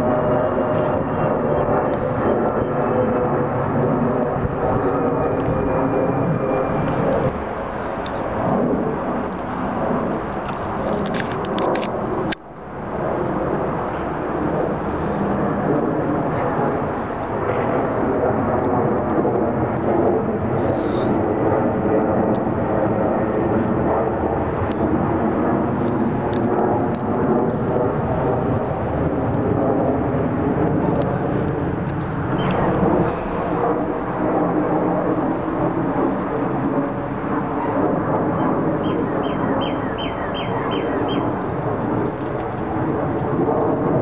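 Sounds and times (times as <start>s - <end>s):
jet airliner passing overhead: 0.0s - 44.0s.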